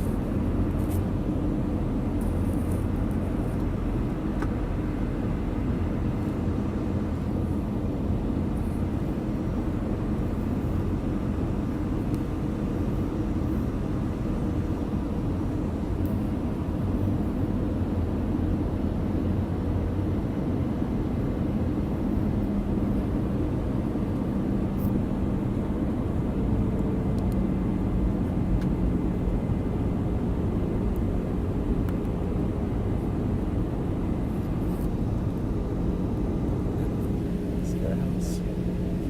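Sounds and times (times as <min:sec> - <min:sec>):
airliner engines rumbling in cabin: 0:00.0 - 0:39.0.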